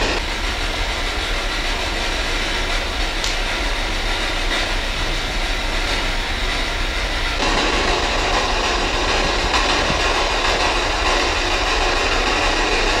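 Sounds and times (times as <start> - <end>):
choppy radio static: 0.0 - 13.0.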